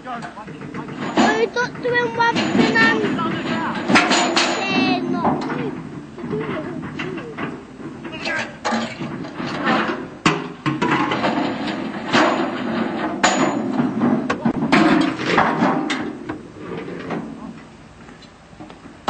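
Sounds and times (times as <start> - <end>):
metal components clanking: 0.1 - 16.3.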